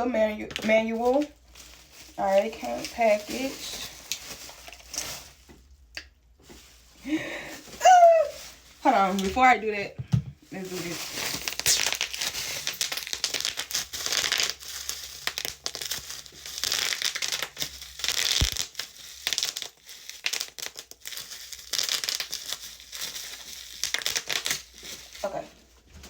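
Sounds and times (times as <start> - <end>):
packaging crinkling and rustling: 0.1 - 26.0.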